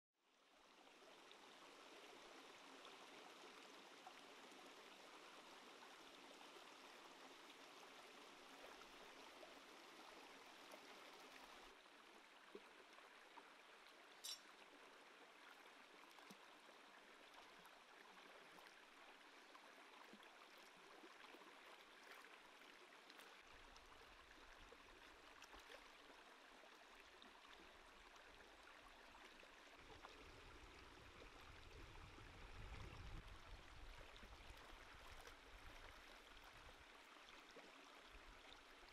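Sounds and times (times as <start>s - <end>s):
stream running over stones: 0.5s - 38.9s.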